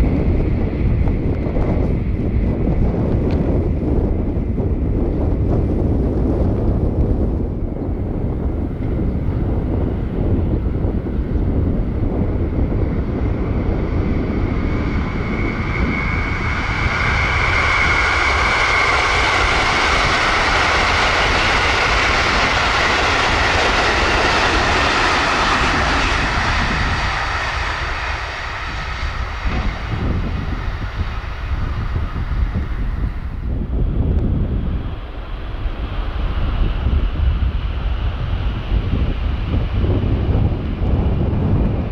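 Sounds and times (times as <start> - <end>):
train passing with rushing roar: 0.0 - 41.9
wind buffeting microphone: 0.0 - 41.9.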